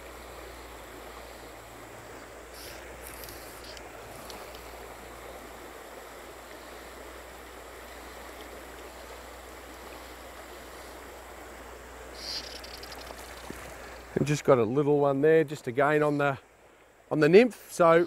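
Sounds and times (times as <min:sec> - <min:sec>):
river flowing over stones: 0:00.0 - 0:18.0.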